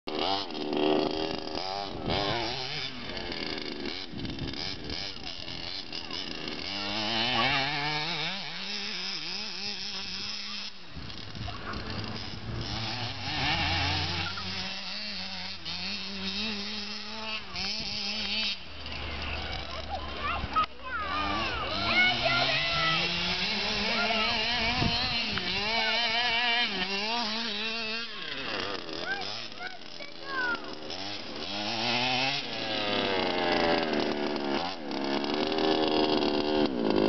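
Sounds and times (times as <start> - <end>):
rc buggy engine revving: 0.1 - 37.0.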